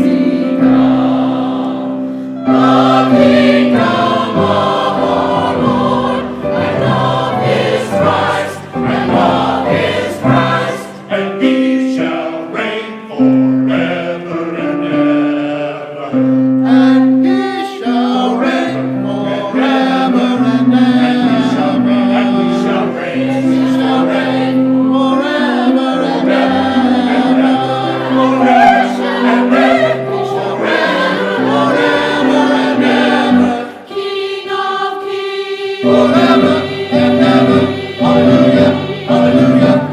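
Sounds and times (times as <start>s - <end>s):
choir and congregation singing carol: 0.0s - 39.9s.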